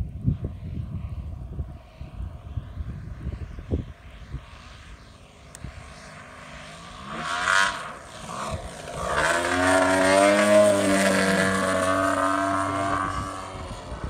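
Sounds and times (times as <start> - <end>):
model plane engine flying past: 0.0 - 14.0.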